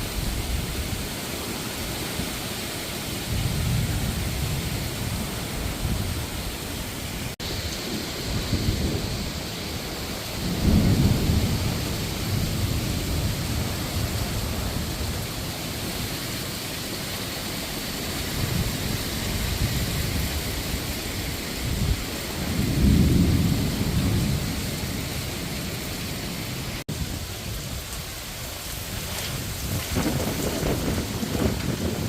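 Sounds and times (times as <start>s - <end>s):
heavy rain hissing: 0.0s - 32.0s
thunder rumbling: 3.0s - 32.0s.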